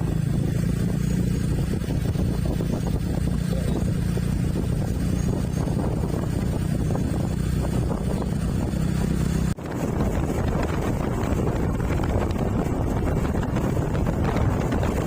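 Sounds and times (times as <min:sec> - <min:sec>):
vehicle engine rumbling: 0:00.0 - 0:15.0
wind buffeting microphone: 0:00.0 - 0:15.0.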